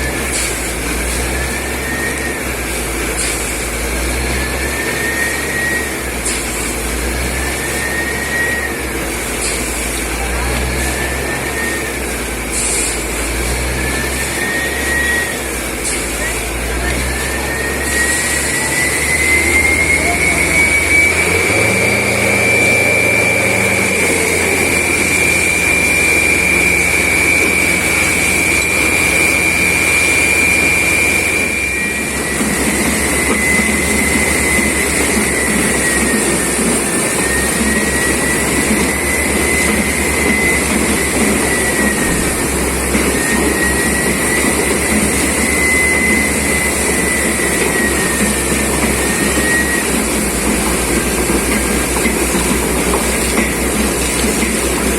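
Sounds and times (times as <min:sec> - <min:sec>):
drilling rig engine rumble: 0:00.0 - 0:54.9
high whine: 0:00.0 - 0:54.9.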